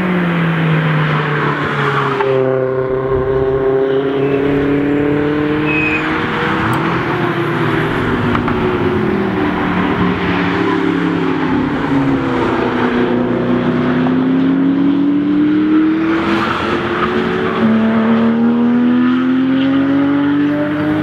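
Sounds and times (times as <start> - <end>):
sports car engine accelerating: 0.0 - 21.0.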